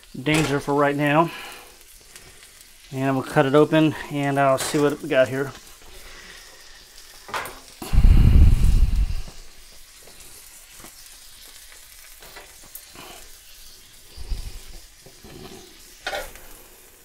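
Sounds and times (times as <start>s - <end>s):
steak sizzling on a griddle: 0.0s - 17.0s.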